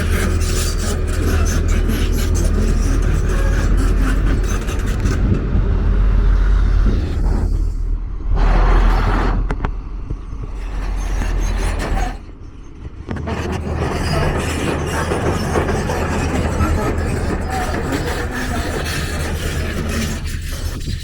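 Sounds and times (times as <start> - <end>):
city street noise: 0.0 - 21.0
vehicle rumbling: 0.0 - 21.0.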